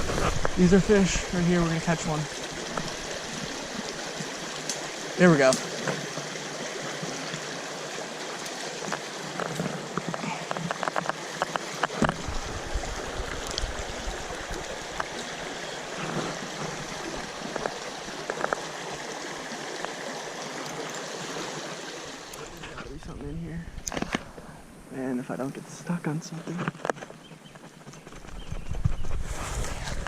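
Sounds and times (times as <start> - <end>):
stream gurgling: 0.0 - 28.1.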